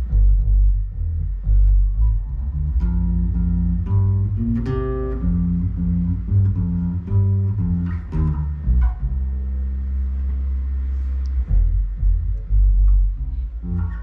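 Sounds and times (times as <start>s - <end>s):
electric bass plucked notes: 0.0s - 14.0s.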